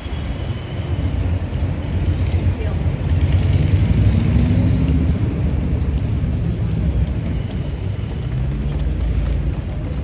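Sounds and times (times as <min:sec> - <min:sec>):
city street low rumble: 0:00.0 - 0:10.0.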